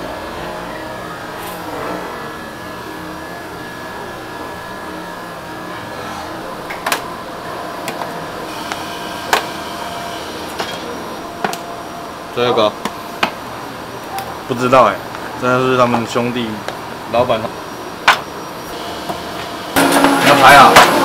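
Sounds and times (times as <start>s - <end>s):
machine whirring: 0.0s - 15.4s, 16.6s - 21.0s.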